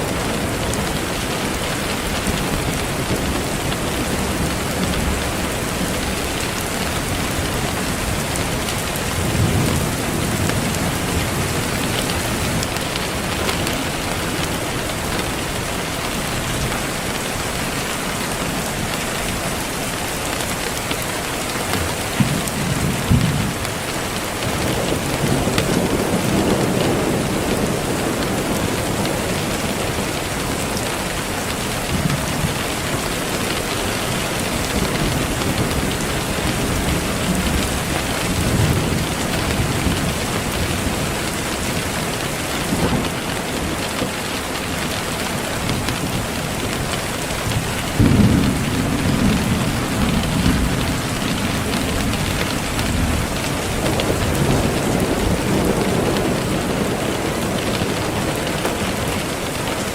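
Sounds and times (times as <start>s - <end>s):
rain falling: 0.0s - 59.9s
rolling thunder rumbles: 0.0s - 59.9s.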